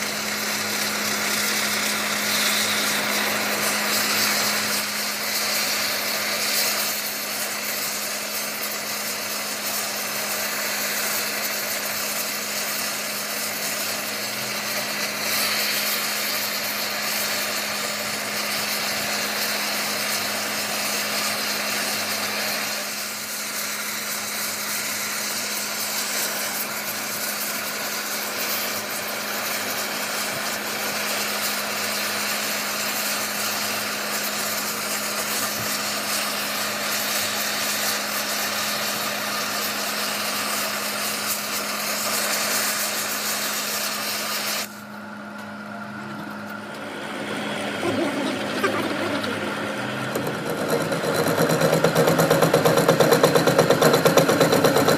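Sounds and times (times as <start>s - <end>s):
power tool grinding metal: 0.0s - 44.8s, 46.8s - 54.9s
machine sound: 0.0s - 54.9s.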